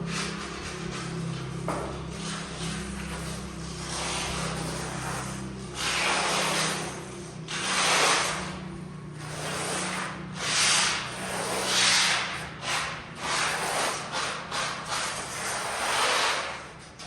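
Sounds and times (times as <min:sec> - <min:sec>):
hand tool scraping hard surface: 0:00.0 - 0:17.0.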